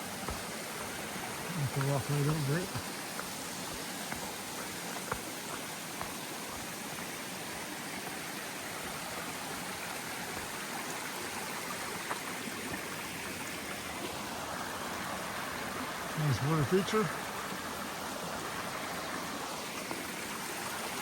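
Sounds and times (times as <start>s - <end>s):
creek flowing and splashing: 0.0s - 21.0s.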